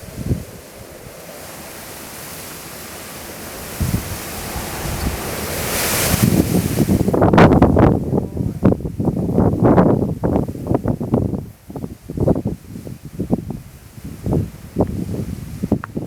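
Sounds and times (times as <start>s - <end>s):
strong wind rushing and gusting: 0.0s - 16.0s
wind buffeting microphone: 0.0s - 16.0s.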